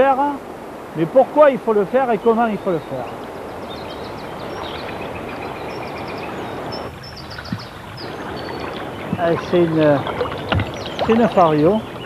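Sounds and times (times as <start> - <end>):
river water rushing over stones: 0.0 - 12.0
small birds chirping: 0.0 - 12.0.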